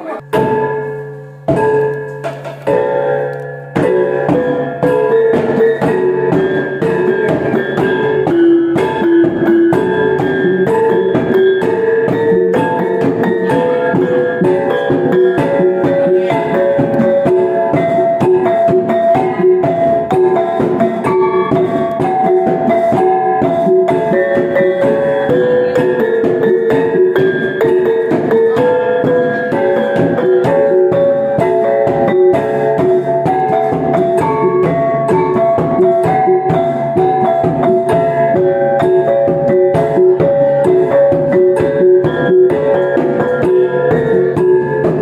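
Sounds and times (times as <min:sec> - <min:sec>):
sharp percussion strikes: 0:00.0 - 0:45.0.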